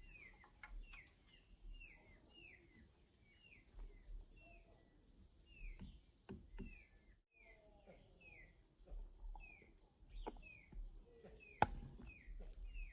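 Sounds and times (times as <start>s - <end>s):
faint bird chirping: 0.0s - 12.9s.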